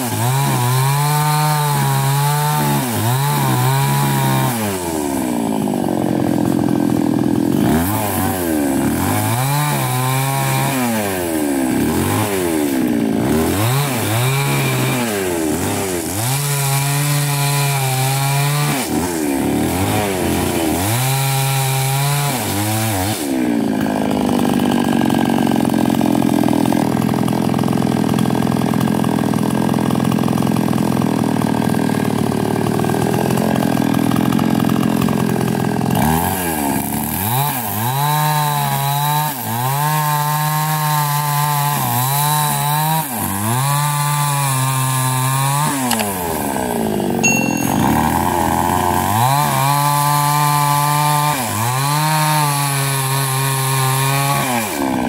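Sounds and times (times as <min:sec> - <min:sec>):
small chainsaw revving: 0:00.0 - 0:55.0.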